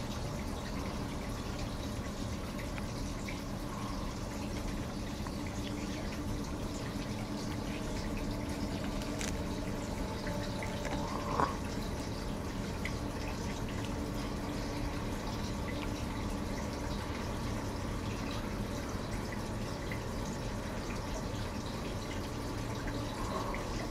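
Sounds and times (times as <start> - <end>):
distant locomotive drone: 0.0 - 23.9.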